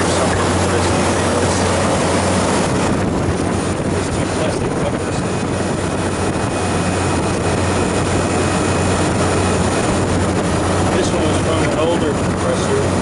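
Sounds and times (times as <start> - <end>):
compressor low hum: 0.0 - 13.0
fan and airflow noise: 0.0 - 13.0.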